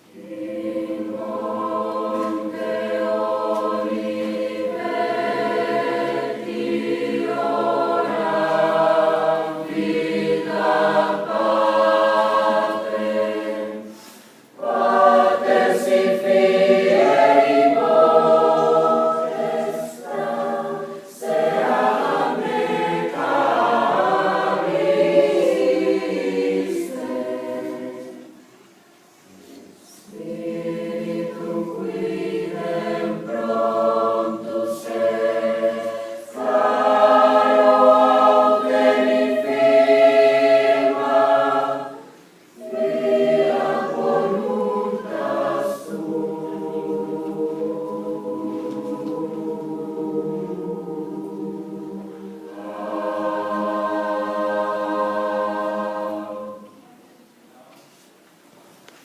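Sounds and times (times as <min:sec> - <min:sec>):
choir singing: 0:00.0 - 0:57.1.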